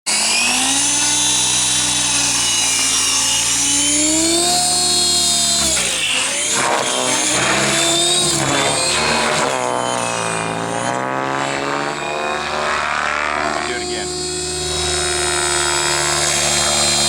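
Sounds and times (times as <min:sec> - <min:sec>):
rc helicopter motor whine: 0:00.1 - 0:17.0.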